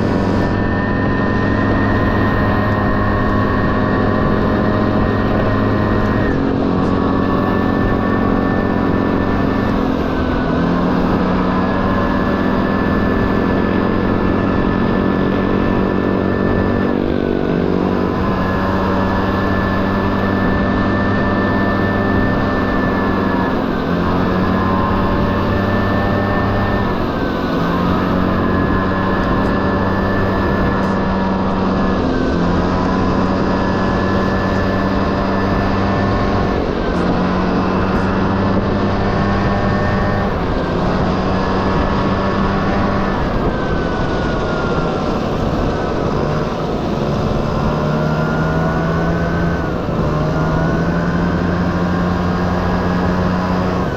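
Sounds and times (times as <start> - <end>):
scooter engine running: 0.0 - 53.9.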